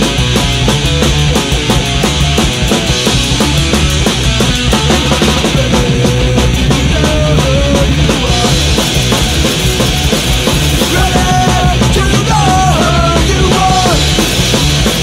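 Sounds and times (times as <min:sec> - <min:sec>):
loud punk rock music: 0:00.0 - 0:15.0.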